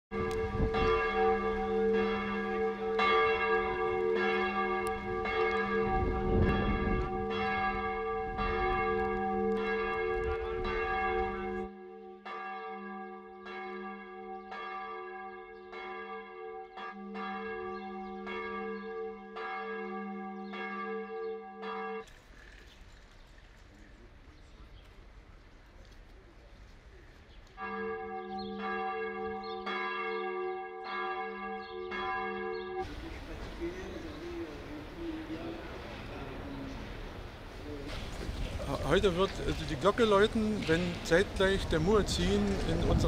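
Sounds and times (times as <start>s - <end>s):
church bell tolling: 0.1s - 22.1s, 27.5s - 43.0s.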